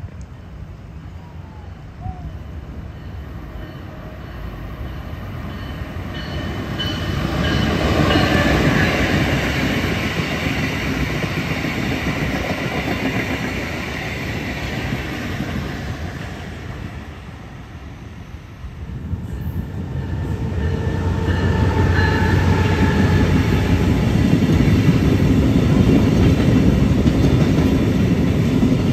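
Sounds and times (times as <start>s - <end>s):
passenger train rumble: 0.0s - 28.9s.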